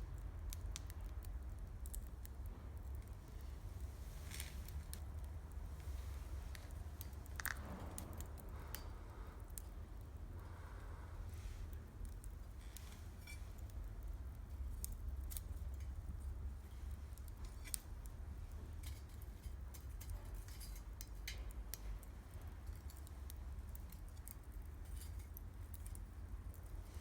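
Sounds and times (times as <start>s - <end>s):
campfire crackling and popping: 0.1s - 27.0s.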